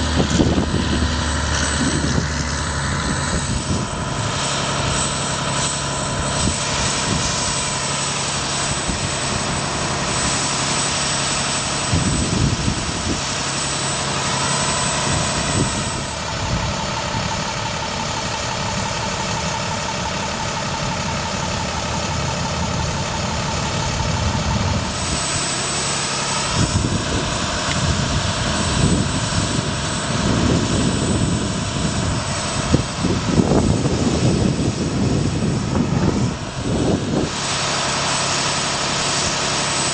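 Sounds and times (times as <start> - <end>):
diesel engine idling: 0.0 - 39.6
steady whine: 0.0 - 39.9.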